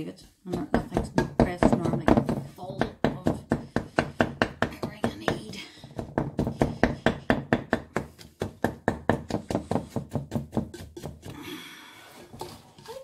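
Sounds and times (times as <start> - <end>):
wooden spoon knocking mixing bowl: 0.4 - 11.3.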